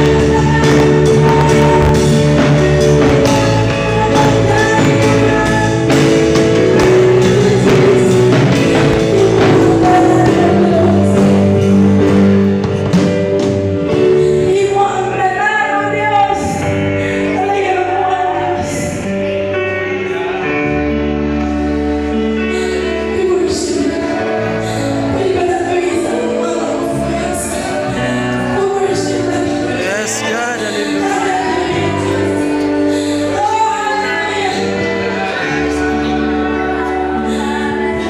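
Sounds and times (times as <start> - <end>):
woman singing into microphone: 0.0 - 19.6, 22.1 - 38.0
keyboard accompaniment: 0.0 - 38.0.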